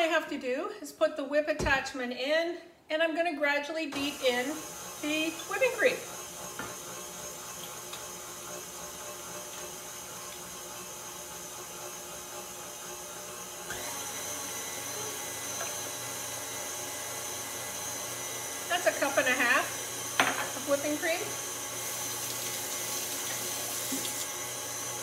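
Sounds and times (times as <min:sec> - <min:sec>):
stand mixer whipping: 0:04.0 - 0:25.0.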